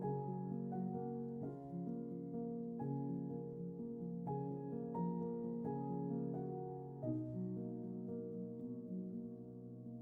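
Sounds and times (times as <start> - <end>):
calm slow piano music: 0.0 - 10.0.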